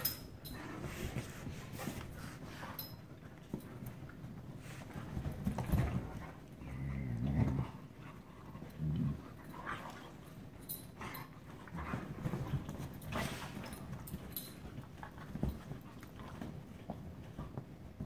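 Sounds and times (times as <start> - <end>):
dogs play growling: 0.0 - 18.0
dogs scuffling: 0.0 - 18.0.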